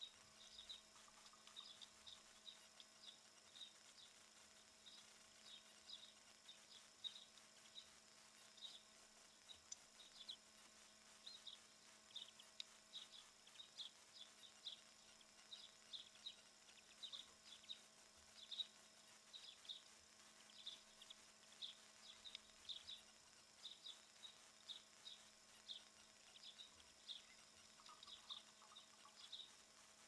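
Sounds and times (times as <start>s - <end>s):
faint steady hum: 0.0s - 30.0s
small birds chirping: 0.0s - 30.0s.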